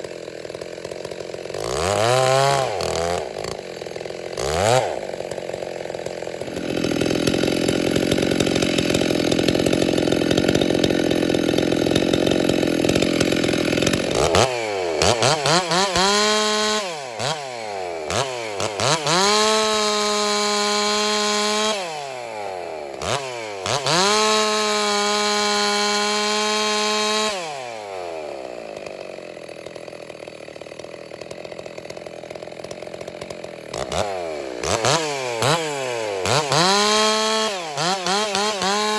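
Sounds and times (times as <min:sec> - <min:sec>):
chainsaw cutting and revving: 0:00.0 - 0:38.9.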